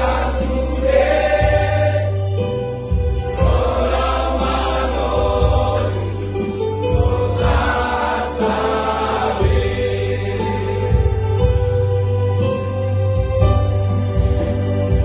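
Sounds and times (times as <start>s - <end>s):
instrumental accompaniment with bass: 0.0s - 15.0s
voices singing a hymn: 0.0s - 15.0s.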